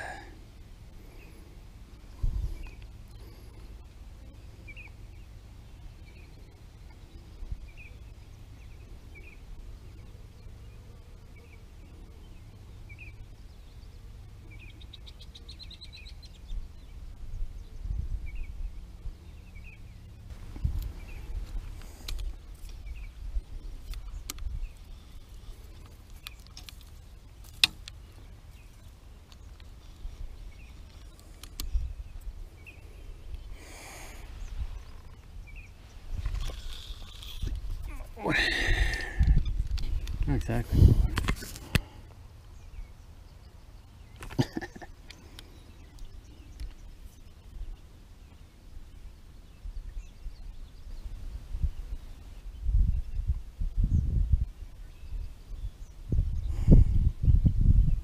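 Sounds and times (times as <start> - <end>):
wind rumbling on microphone: 0.0 - 10.7, 15.8 - 27.4, 28.0 - 44.1, 45.5 - 58.0.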